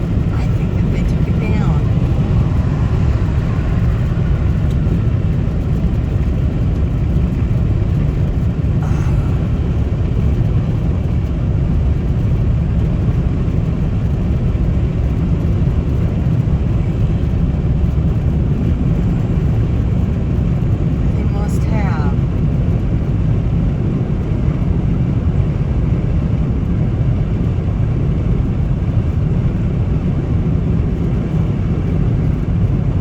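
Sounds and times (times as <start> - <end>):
car road rumble: 0.0 - 33.0.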